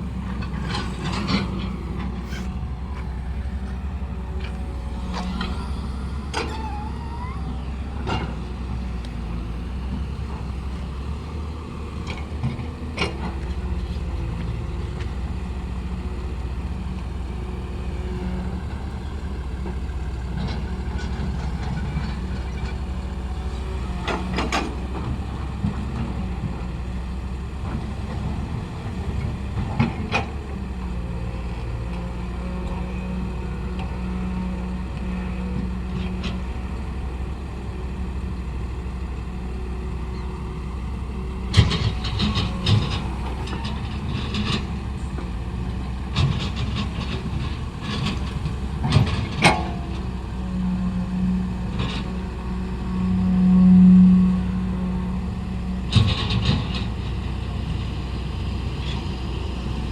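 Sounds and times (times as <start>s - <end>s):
engine droning steadily: 0.0s - 59.9s.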